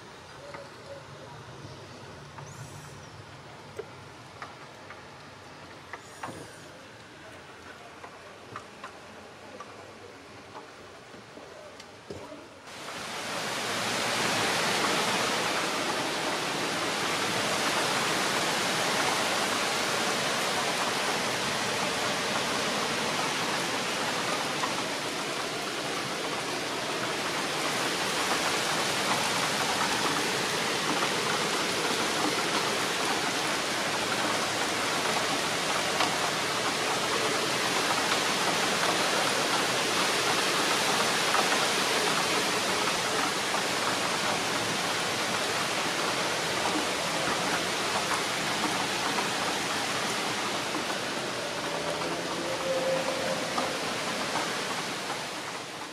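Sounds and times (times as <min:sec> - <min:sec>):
heavy rain on trees: 0:00.0 - 0:55.9.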